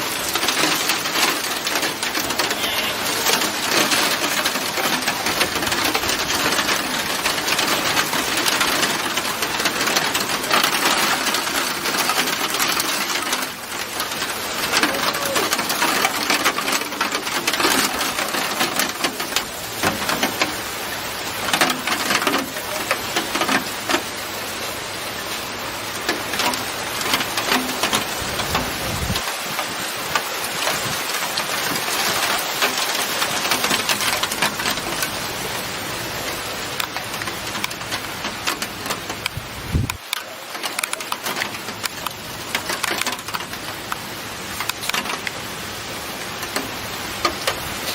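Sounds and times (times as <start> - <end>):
heavy rain on hard surface: 0.0 - 47.9.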